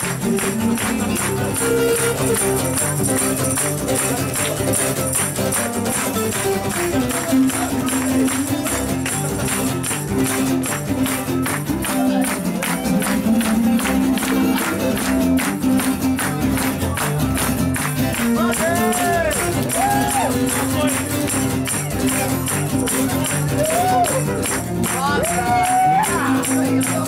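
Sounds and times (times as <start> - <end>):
acoustic guitar strummed fast: 0.0 - 27.0.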